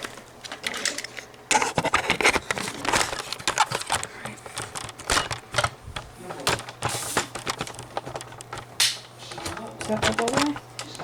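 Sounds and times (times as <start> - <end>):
objects being handled: 0.0 - 11.0.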